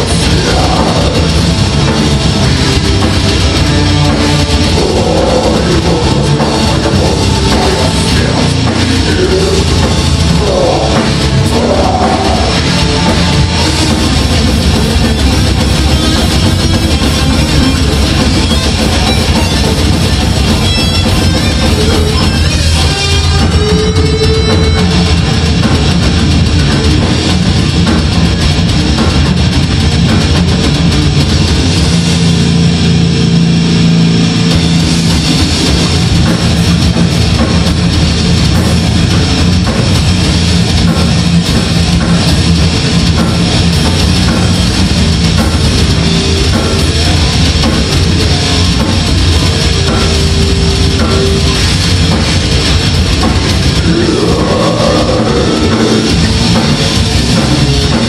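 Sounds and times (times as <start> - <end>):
distorted electric guitars: 0.0 - 58.0
drum kit: 0.0 - 58.0
high guitar notes run: 0.0 - 58.0.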